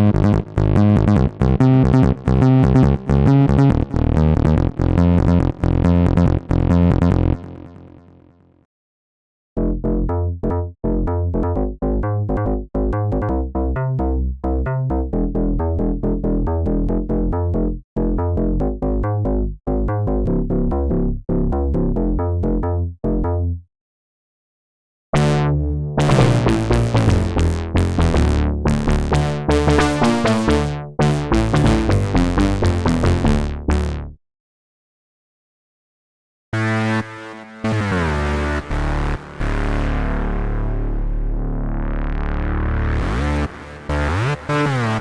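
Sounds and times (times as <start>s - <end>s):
bright synth bass notes: 0.0s - 8.2s, 9.6s - 23.6s, 25.2s - 34.2s, 36.6s - 45.0s
synthesizer bass line: 0.0s - 8.3s, 9.6s - 23.6s, 25.2s - 34.2s, 36.6s - 45.0s.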